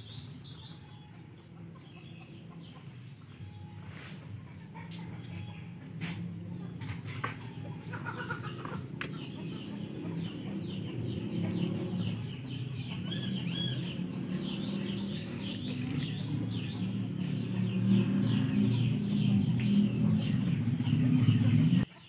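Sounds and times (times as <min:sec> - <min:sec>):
chickens clucking: 0:00.1 - 0:22.0.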